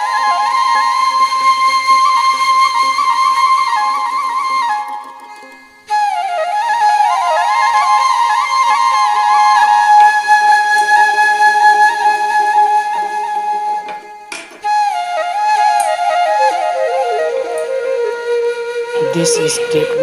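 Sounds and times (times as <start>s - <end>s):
flute melody: 0.0s - 20.0s.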